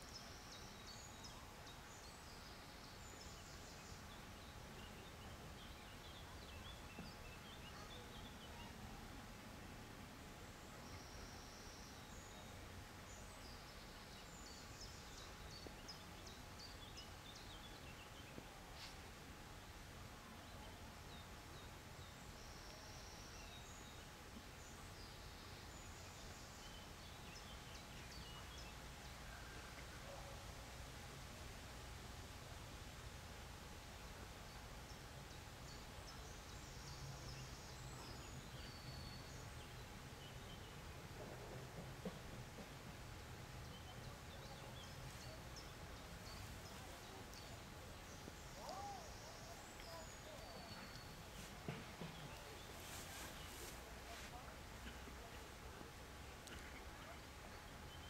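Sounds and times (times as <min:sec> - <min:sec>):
faint birds chirping and singing: 0:00.0 - 0:58.0.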